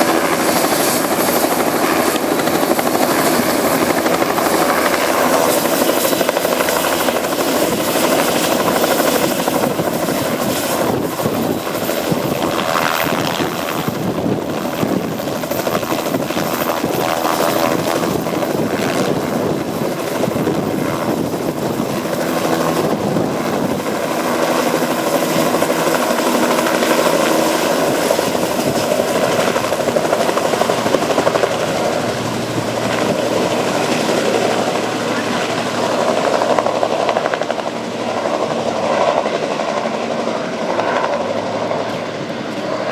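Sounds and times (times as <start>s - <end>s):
helicopter rotors droning: 0.0s - 42.9s.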